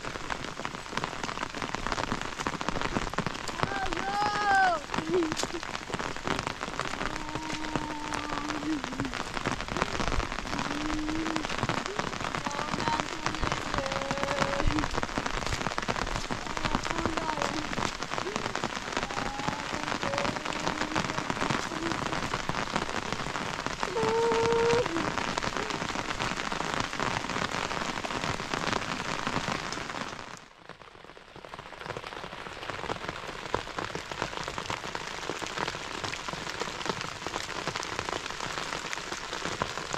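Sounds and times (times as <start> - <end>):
rain falling on road: 0.0 - 39.9.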